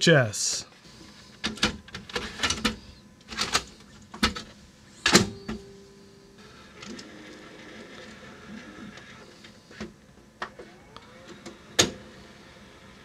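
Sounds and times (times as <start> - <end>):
machine hum: 0.6 - 13.0.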